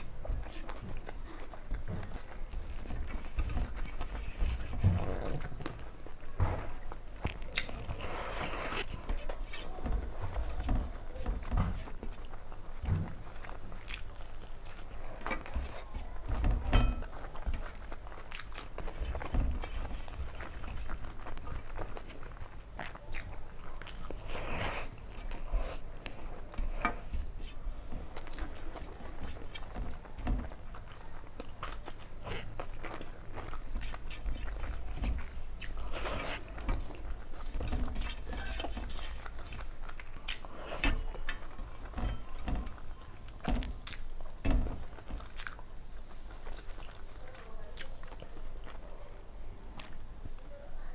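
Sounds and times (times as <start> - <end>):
chewing food: 0.0 - 50.6.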